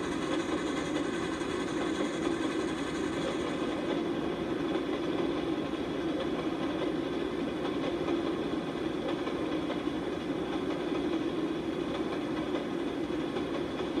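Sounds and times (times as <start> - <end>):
model train wheels rumbling on rail: 0.0 - 14.0.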